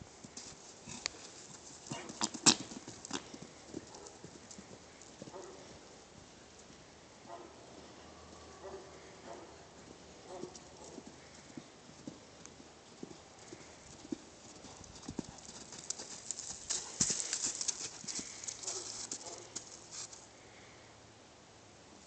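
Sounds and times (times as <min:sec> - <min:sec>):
horse hoofbeats: 0:00.0 - 0:20.2.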